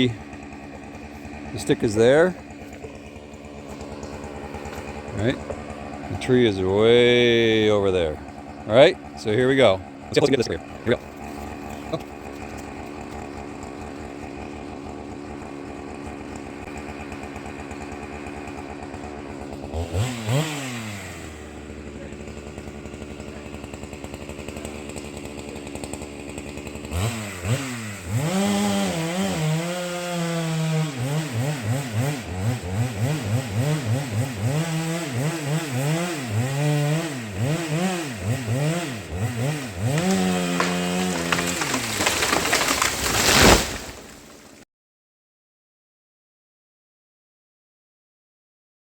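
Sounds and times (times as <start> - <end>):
chainsaw cutting wood: 0.0 - 44.6
chainsaw idling and revving: 0.0 - 44.6.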